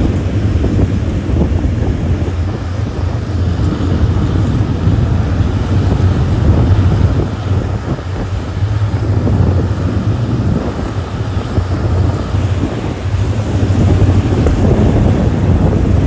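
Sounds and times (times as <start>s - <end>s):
moving train rumbling: 0.0s - 16.0s
wind buffeting microphone: 0.0s - 16.0s.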